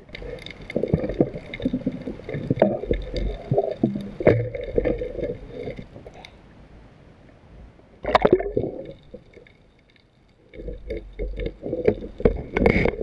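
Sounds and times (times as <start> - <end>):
water sloshing and gurgling: 0.0 - 6.5, 8.0 - 13.0.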